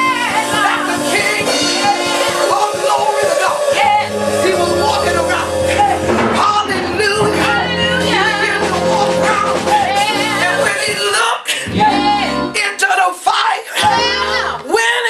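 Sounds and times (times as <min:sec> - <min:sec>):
band playing: 0:00.0 - 0:12.6
voices singing gospel: 0:00.0 - 0:15.0.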